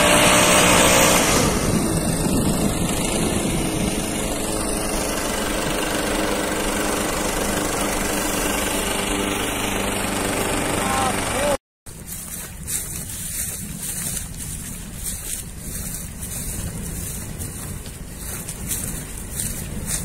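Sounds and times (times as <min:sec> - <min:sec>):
leaf blower engine running: 0:00.0 - 0:20.0.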